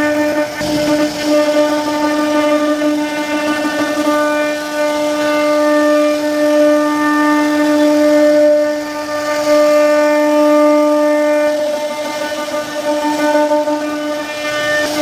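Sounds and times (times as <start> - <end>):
bit cutting wood: 0.0 - 15.0
router spindle whine: 0.0 - 15.0.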